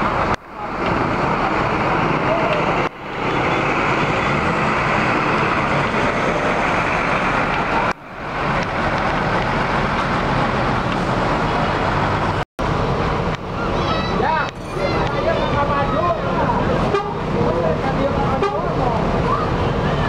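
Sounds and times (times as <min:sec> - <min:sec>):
diesel coach engine pulling away: 0:00.0 - 0:20.0
steady traffic noise: 0:00.0 - 0:20.0.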